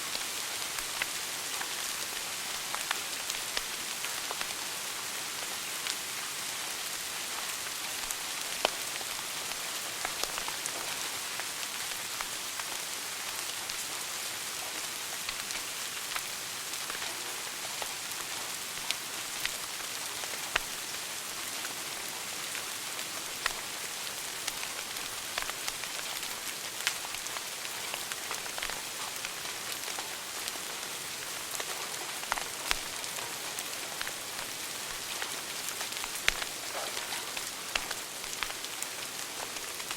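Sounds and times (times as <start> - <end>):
wood fire crackling and popping: 0.7 - 4.6, 7.3 - 13.8, 15.1 - 21.0, 21.6 - 39.9.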